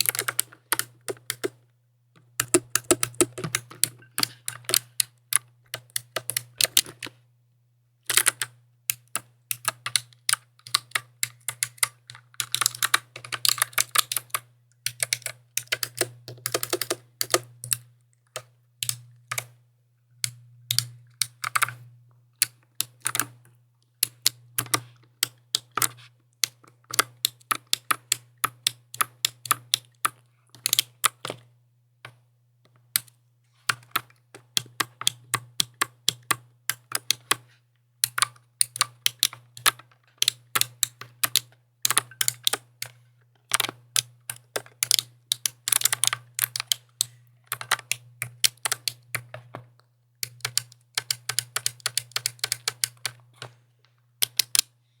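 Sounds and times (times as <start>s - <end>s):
mechanical keyboard typing: 0.0s - 1.6s, 2.3s - 7.1s, 8.1s - 19.6s, 20.2s - 21.8s, 22.4s - 23.4s, 24.0s - 31.5s, 33.0s - 37.4s, 38.0s - 49.6s, 50.2s - 53.5s, 54.2s - 54.7s.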